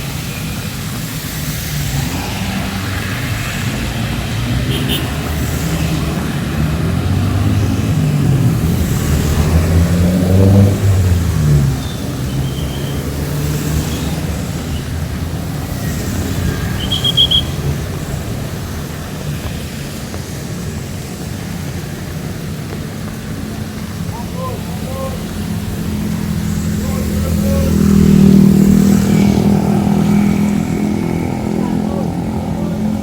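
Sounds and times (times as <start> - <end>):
heavy rain on street: 0.0 - 33.0.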